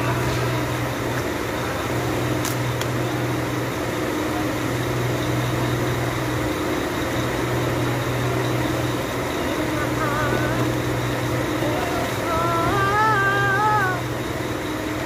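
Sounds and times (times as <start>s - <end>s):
low mechanical machine hum: 0.0s - 15.0s.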